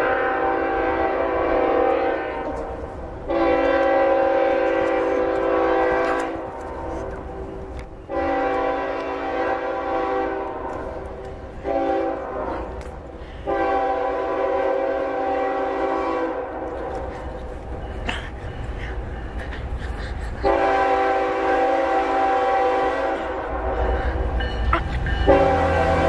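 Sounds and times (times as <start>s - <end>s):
locomotive air horn blasts: 0.0s - 2.7s, 3.3s - 7.3s, 8.1s - 17.2s, 20.4s - 26.0s.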